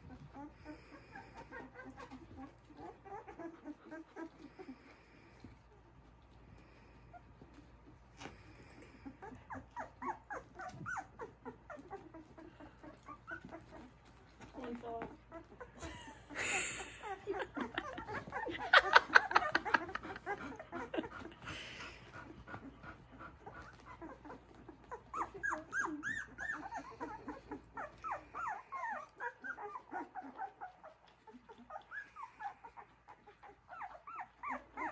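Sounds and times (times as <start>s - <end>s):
puppies whimpering and squeaking: 0.0s - 34.9s
soft rustling: 0.0s - 34.9s.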